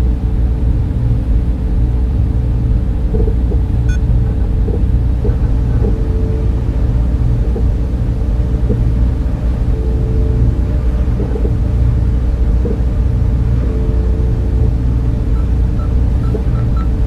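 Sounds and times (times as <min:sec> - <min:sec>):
faint constant hum: 0:00.0 - 0:17.0
server cooling fans rumbling: 0:00.0 - 0:17.0.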